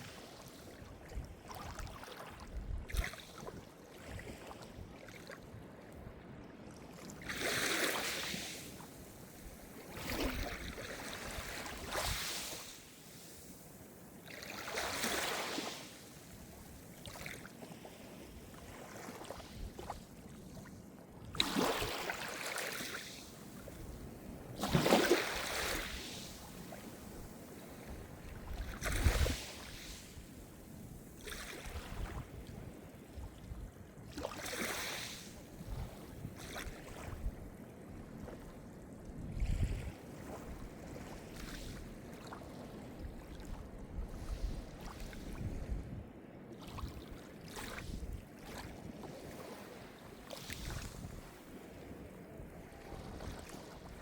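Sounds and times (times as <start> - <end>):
small waves breaking: 0.0 - 54.0.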